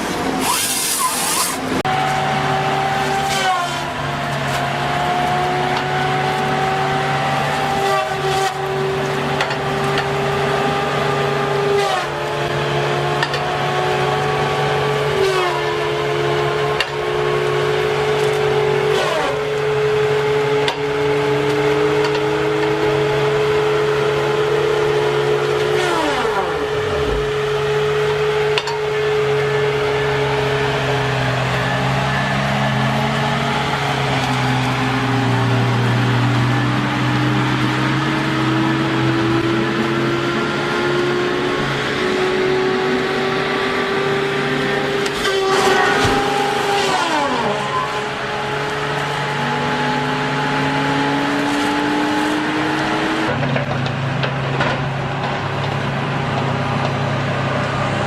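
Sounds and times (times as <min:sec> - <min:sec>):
chainsaw engine at high revs: 0:00.0 - 0:53.4.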